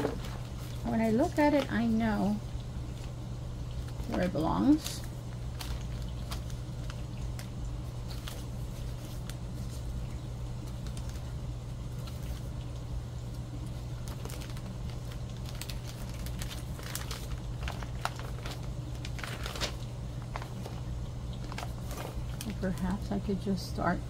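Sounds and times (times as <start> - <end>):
paper rustling: 0.0 - 1.9, 3.8 - 12.6, 14.0 - 23.0
steady low hum: 0.0 - 24.0.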